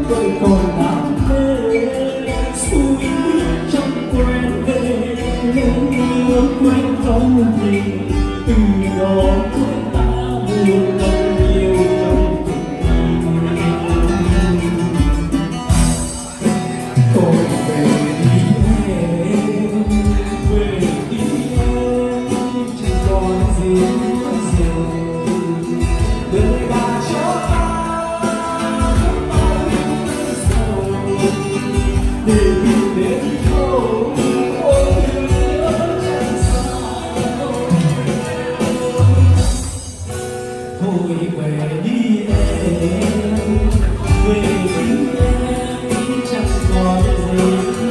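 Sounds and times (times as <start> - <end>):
steady beat: 0.0 - 40.7, 42.2 - 47.9
acoustic guitars: 0.0 - 47.9
bass: 0.0 - 47.9
man singing: 0.0 - 47.9.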